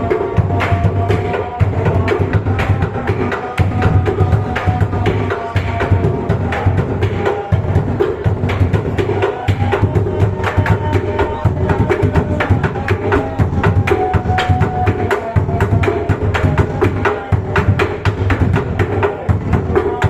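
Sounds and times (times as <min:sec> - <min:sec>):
deep drum beats: 0:00.0 - 0:20.0.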